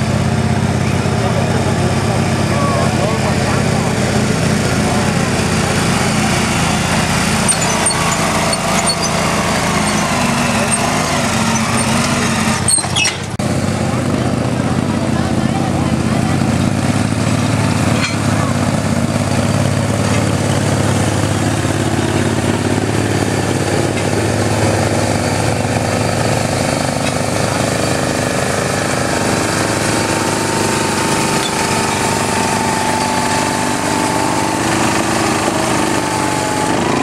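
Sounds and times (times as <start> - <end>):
tractor engines running under load: 0.0 - 37.0.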